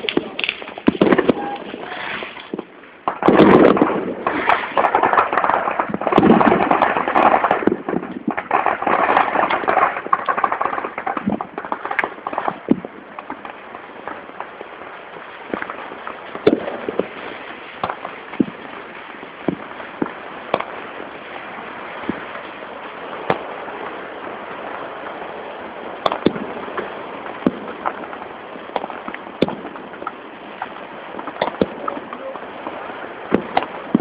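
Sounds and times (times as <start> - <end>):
fireworks bangs and pops: 0.0 - 34.0.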